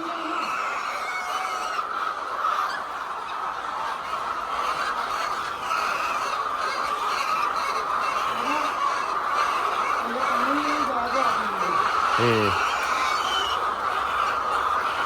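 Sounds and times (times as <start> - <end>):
flock of hens clucking: 0.0 - 15.0.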